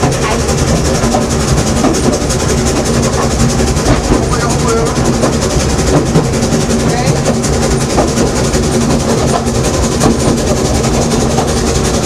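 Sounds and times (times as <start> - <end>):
train knocks and clatter: 0.0 - 12.0
train wheels rumbling on rails: 0.0 - 12.0.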